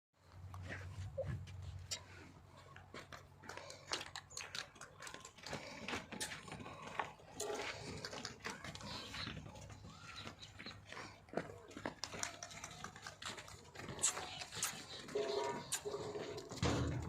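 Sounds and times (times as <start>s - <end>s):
goat hooves clicking and knocking: 0.2s - 17.0s.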